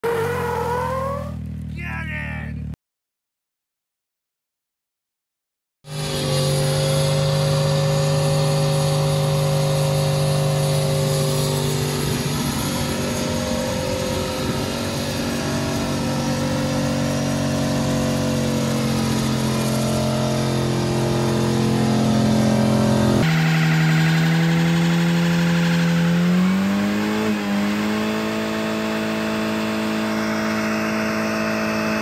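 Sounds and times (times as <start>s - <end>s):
truck engine at high revs: 0.0s - 1.7s, 5.9s - 32.0s.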